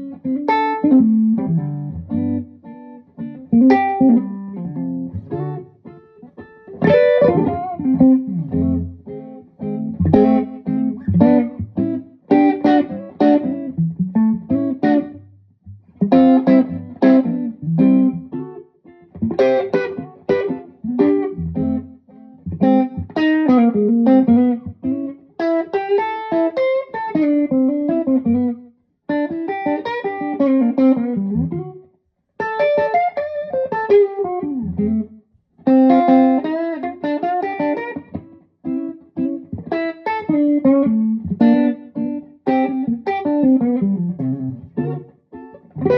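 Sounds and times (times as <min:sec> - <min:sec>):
electric guitar playing: 0:00.0 - 0:31.8, 0:32.4 - 0:45.9.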